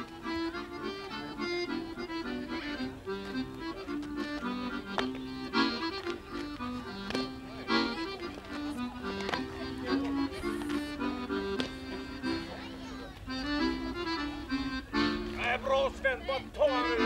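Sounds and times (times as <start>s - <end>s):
accordion folk dance tune: 0.0s - 17.0s.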